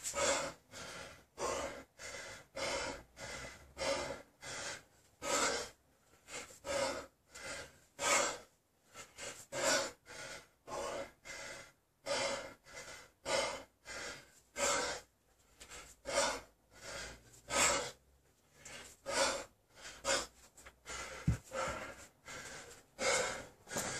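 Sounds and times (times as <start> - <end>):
man breathing hard: 0.0 - 23.9.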